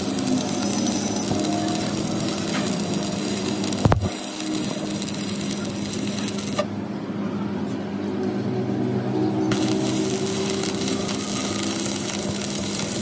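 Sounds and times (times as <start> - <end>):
workshop machine hum: 0.0 - 13.0.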